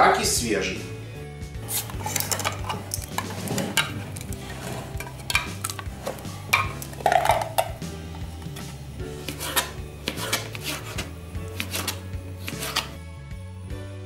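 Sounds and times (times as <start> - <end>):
metal jar opener scraping lid: 1.6 - 13.0.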